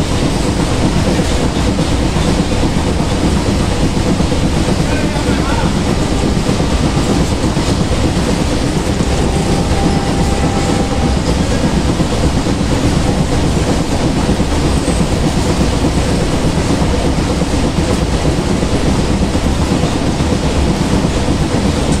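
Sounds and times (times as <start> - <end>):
train wagons rumbling past: 0.0 - 22.0.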